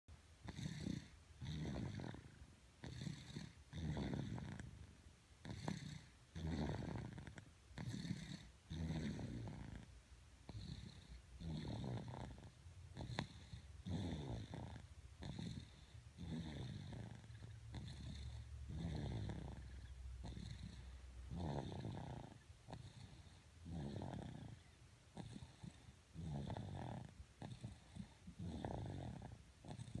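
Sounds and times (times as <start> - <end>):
rasping snoring: 0.4 - 9.9, 10.5 - 30.0.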